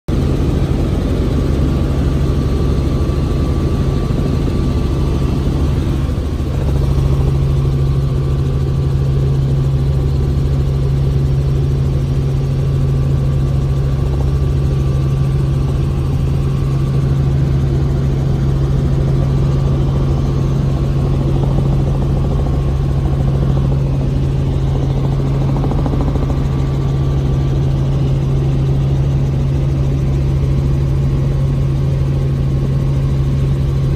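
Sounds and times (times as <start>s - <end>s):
helicopter engine and rotor: 0.1s - 33.9s.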